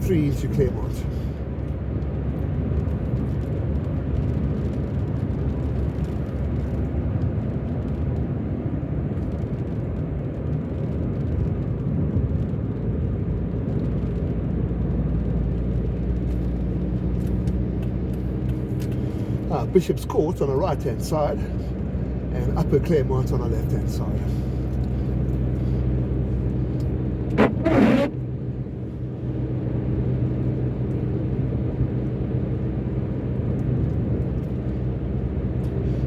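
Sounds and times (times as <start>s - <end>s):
car engine hum: 0.0s - 36.0s
tyres rumbling on road: 0.0s - 36.0s.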